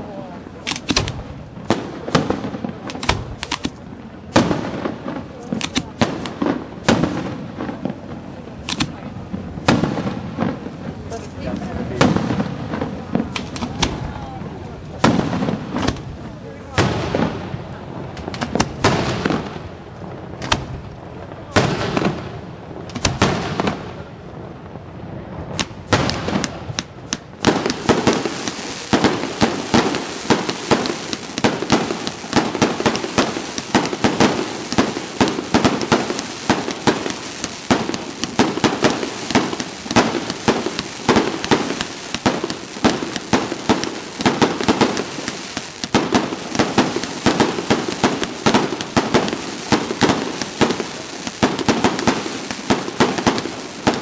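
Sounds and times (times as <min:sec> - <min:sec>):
fireworks cracks and bangs: 0:00.0 - 0:54.0.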